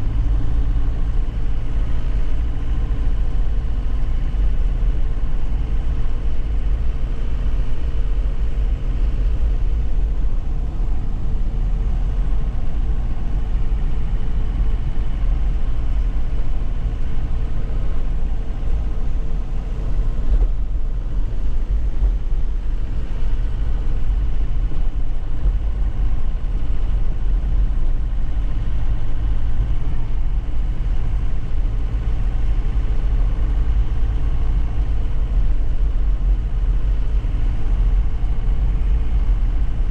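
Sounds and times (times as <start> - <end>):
road and tyre noise: 0.0 - 39.9
truck engine running: 0.0 - 39.9.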